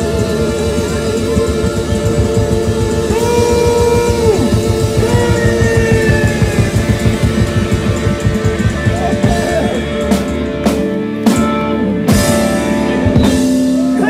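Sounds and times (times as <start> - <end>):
live rockabilly band: 0.0 - 14.0.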